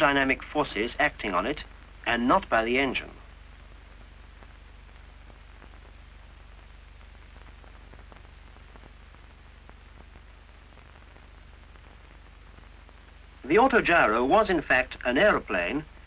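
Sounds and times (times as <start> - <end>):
faint crackles and clicks: 0.0 - 16.0
film hiss: 0.0 - 16.0.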